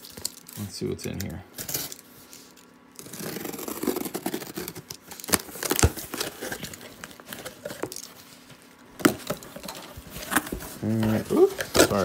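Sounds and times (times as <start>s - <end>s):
tape tearing: 1.6s - 8.2s, 9.0s - 12.0s
cardboard flaps crinkling: 1.6s - 12.0s.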